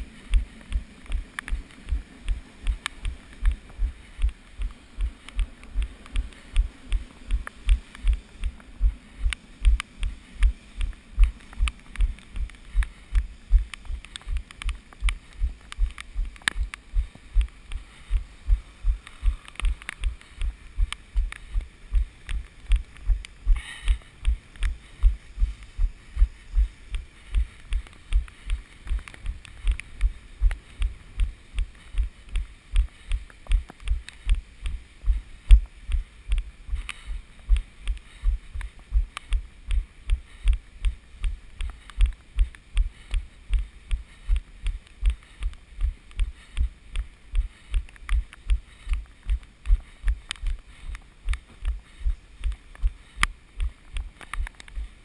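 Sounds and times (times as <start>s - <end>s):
faint ticking: 0.0s - 55.0s.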